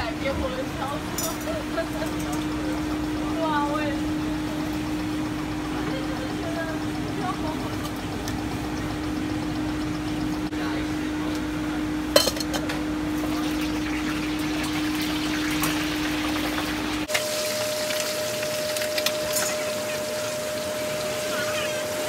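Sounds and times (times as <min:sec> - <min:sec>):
oil sizzling in a wok: 0:00.0 - 0:22.0
steady hum: 0:00.0 - 0:22.0.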